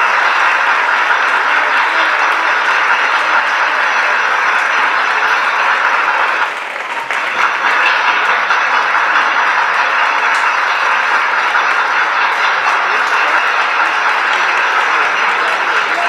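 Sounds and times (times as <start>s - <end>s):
audience clapping: 0.0s - 16.0s.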